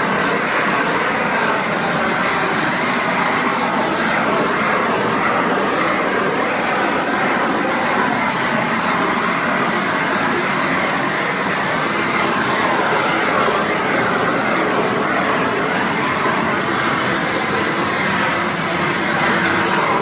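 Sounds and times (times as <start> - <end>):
propane heat gun flame blowing: 0.0 - 20.0.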